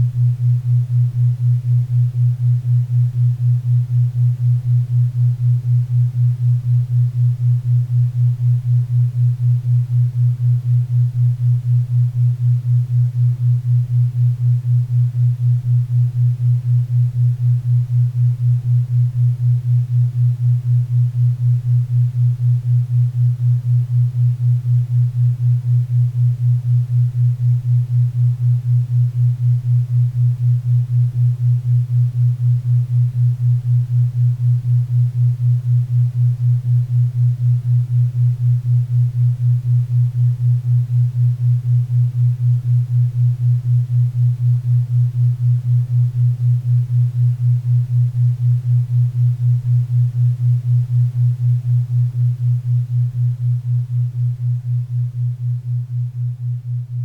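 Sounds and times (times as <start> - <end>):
low pulsing hum: 0.0 - 57.0.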